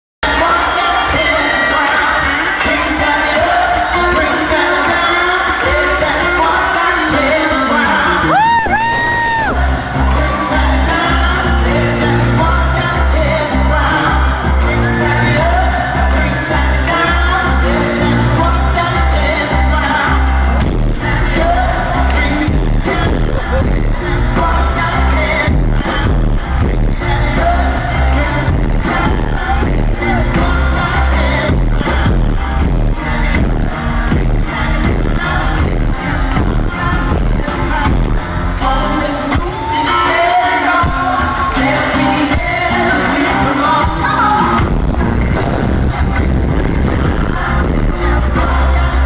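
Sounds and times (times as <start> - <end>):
electronic pop music with bass beat: 0.2 - 49.0
person singing: 0.2 - 49.0.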